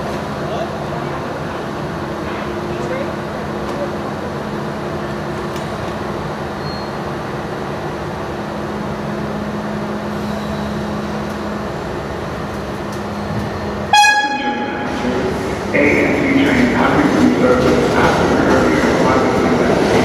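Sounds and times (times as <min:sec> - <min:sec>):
subway train humming: 0:00.0 - 0:20.0.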